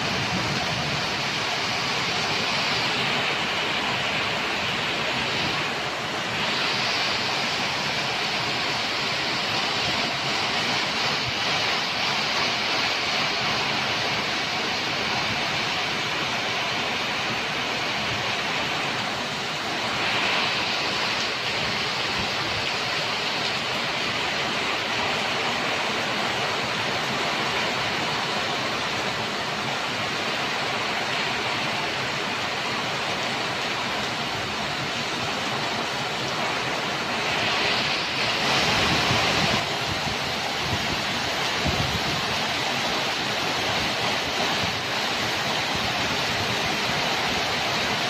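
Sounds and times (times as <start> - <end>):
heavy rain pouring off roof: 0.0 - 48.0
rain beating on foliage: 0.0 - 48.0.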